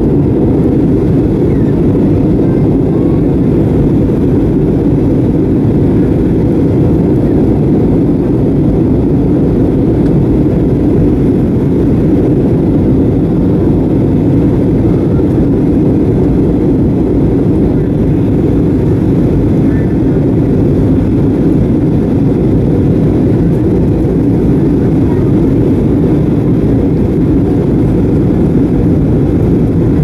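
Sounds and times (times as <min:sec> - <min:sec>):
jet cabin airflow and engines: 0:00.0 - 0:30.0.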